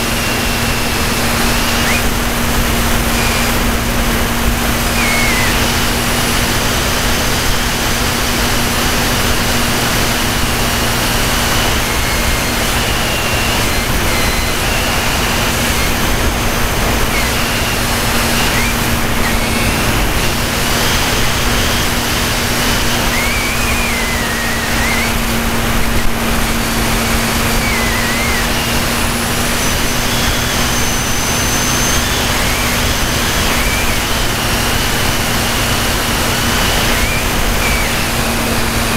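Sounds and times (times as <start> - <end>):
propeller and wind rush: 0.0 - 38.9
thin high whine: 0.0 - 38.9.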